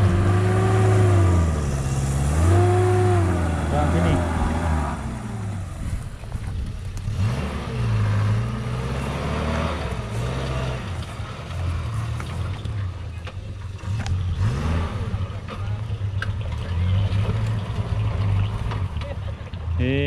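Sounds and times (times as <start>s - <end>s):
car engine revving: 0.0s - 19.1s.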